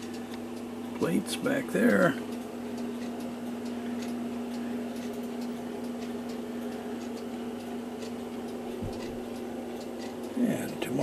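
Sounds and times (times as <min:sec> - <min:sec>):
faint regular ticks: 0:00.0 - 0:11.0
steady hum: 0:00.0 - 0:11.0.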